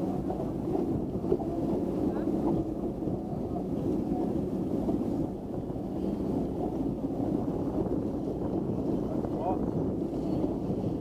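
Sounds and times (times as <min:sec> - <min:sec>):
boat engine rumbling: 0:00.0 - 0:11.0
wind on microphone: 0:00.0 - 0:11.0.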